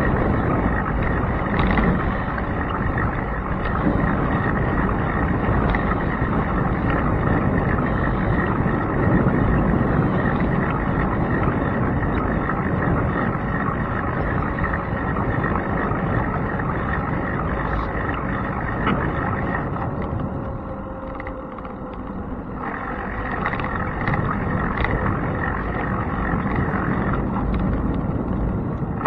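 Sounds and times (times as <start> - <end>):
bicycle road rumble: 0.0 - 29.0
wind on camera microphone: 0.0 - 29.0.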